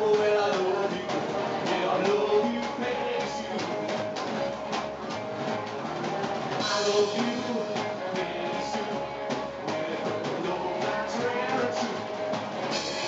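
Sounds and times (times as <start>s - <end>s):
rockabilly band playing: 0.0s - 13.0s.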